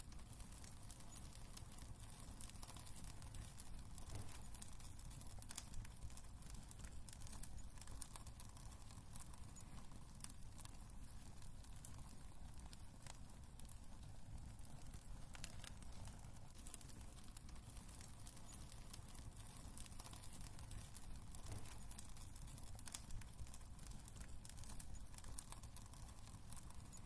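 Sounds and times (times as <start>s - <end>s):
low rumble of flames: 0.0s - 27.0s
wood fire crackling faintly: 0.0s - 27.0s.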